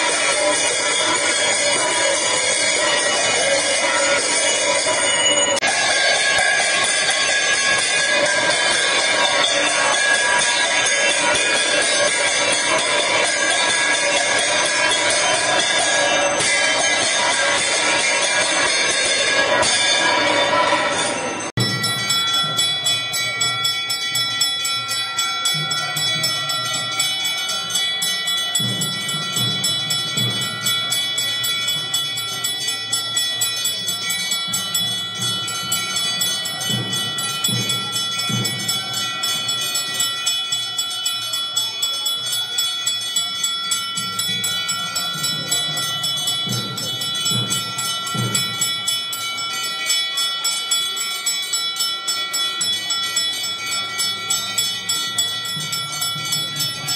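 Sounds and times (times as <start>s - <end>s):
hand bell ringing rapidly: 0.0s - 56.9s.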